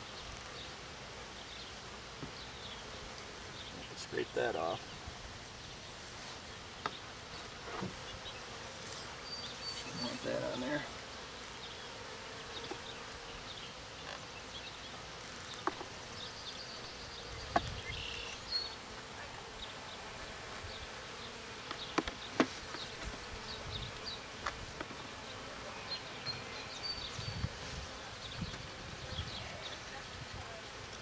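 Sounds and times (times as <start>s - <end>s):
bees buzzing: 0.1s - 31.0s.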